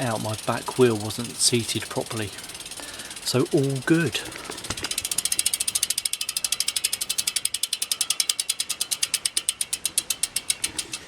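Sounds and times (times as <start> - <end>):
bike freehub ticking: 0.0 - 11.0.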